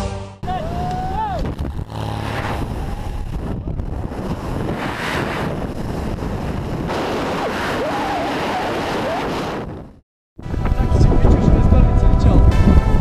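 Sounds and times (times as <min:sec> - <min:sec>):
wind on microphone: 0:01.3 - 0:13.0.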